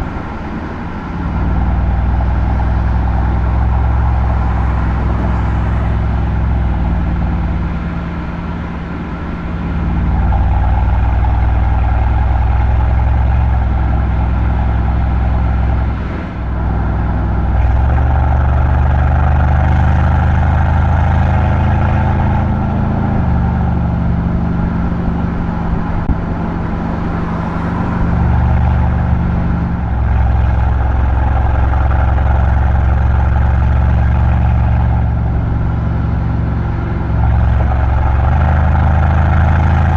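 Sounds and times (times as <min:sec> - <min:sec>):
car engine exhaust drone: 0:00.0 - 0:39.9.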